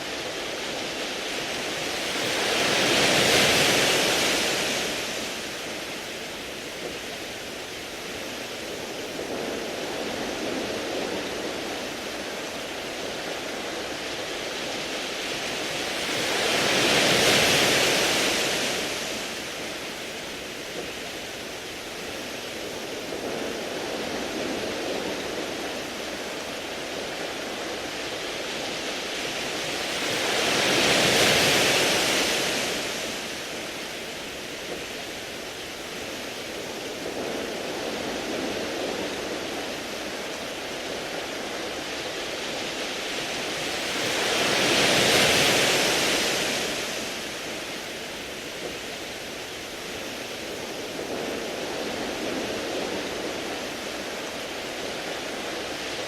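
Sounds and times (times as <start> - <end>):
waves washing on pebble beach: 0.0 - 56.0.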